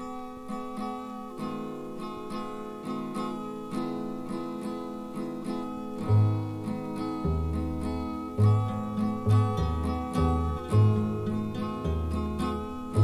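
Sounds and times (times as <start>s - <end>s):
acoustic guitars picking: 0.0s - 13.0s.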